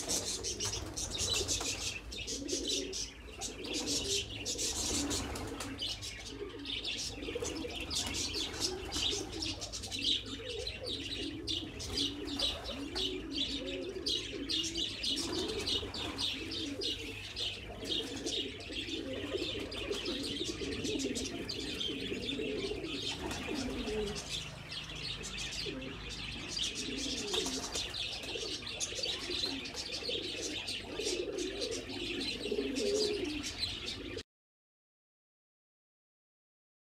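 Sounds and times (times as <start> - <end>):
pigeons cooing: 0.0 - 34.2.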